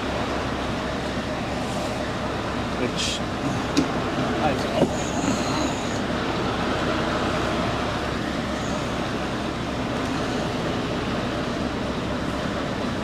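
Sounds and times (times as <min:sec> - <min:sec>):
lorry engine drone from cab: 0:00.0 - 0:13.0.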